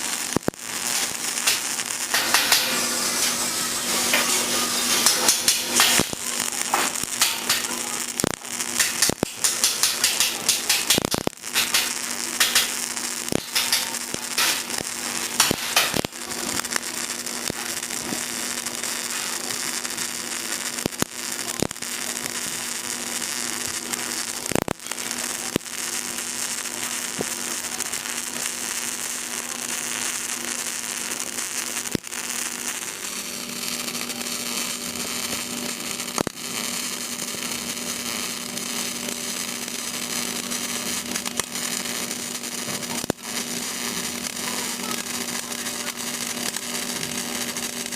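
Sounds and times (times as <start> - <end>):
welding arc crackling: 0.0 - 47.9.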